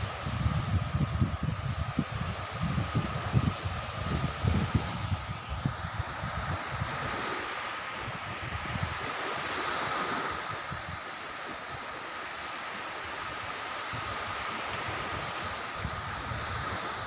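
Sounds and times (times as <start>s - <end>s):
wind buffeting microphone: 0.0s - 11.0s, 13.2s - 17.0s
small waves washing onto sand: 0.0s - 17.0s.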